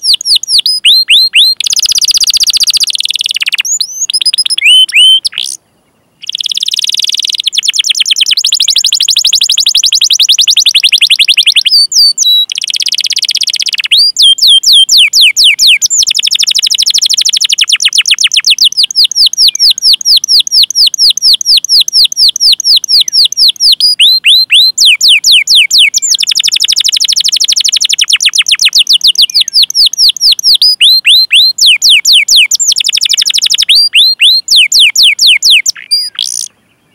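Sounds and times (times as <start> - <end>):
canary singing: 0.0 - 5.6, 6.2 - 36.9.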